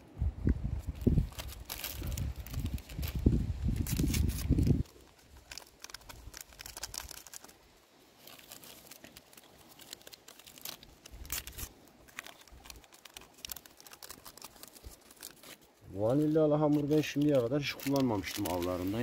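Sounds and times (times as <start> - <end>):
paper sachets crinkling and tearing: 0.8 - 19.0.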